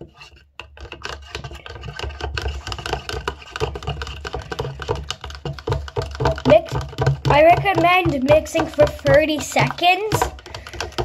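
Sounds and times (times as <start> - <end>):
toothbrush scraping plastic bowl: 0.0 - 11.0.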